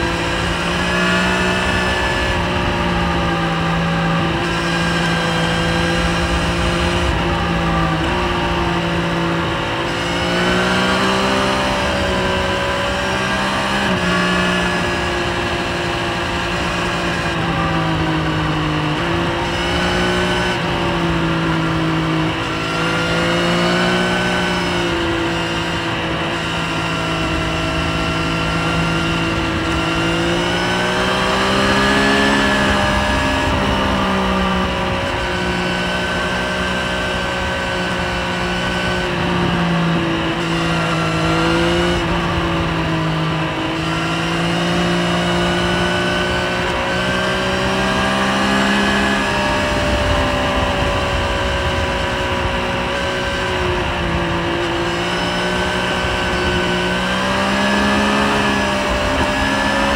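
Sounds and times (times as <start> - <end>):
motorcycle engine under way: 0.0 - 59.9
wind rushing over microphone: 0.0 - 59.9.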